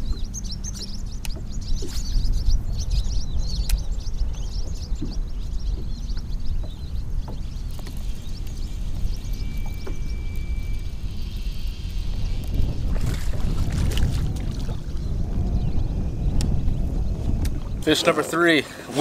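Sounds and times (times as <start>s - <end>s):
birds chirping: 0.0s - 19.0s
wind buffeting microphone: 0.0s - 19.0s.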